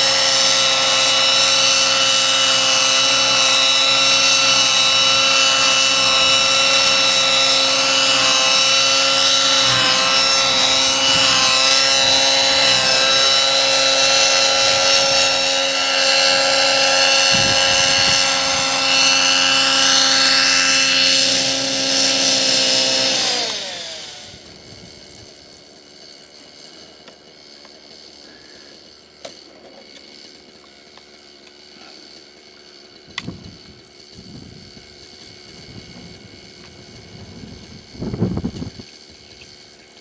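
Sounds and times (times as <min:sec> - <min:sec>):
model helicopter rotor whine: 0:00.0 - 0:40.0.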